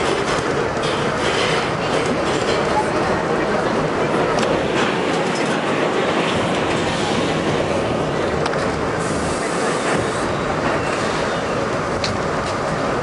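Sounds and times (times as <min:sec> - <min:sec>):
subway car wheels rumbling on rail: 0:00.0 - 0:13.0.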